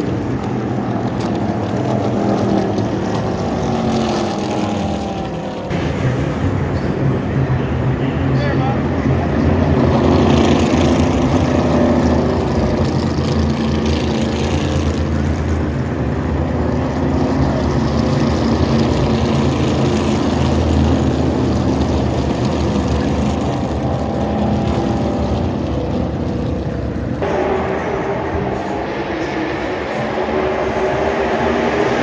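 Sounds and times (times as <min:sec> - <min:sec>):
race car engines rumbling: 0:00.0 - 0:32.0.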